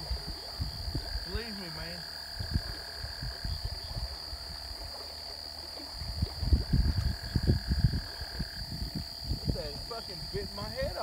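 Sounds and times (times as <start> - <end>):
low rumbles on microphone: 0.0 - 1.4, 2.3 - 5.0, 5.9 - 10.9
night insects droning: 0.0 - 11.0.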